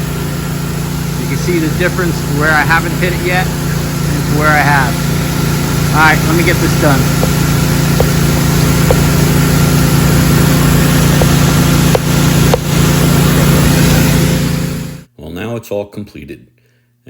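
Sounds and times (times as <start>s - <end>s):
pressure washer running: 0.0s - 15.1s.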